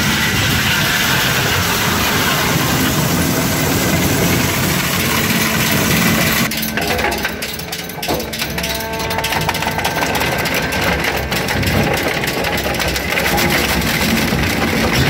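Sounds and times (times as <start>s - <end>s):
low hum: 0.0s - 15.0s
shredder shredding metal: 0.0s - 15.0s.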